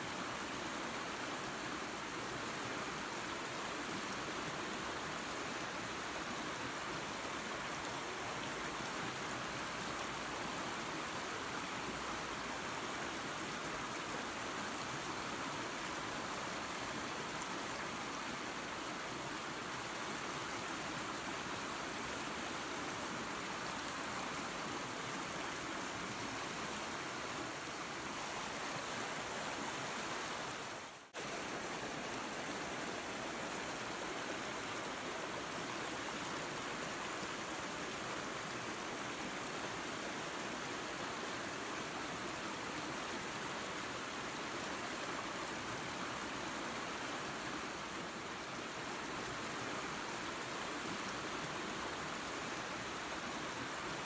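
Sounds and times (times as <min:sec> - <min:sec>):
waterfall and creek rushing: 0:00.0 - 0:54.0.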